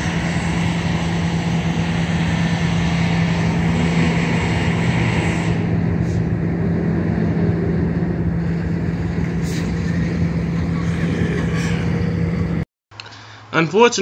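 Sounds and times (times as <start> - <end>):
diesel locomotive engine idling: 0.0 - 12.6.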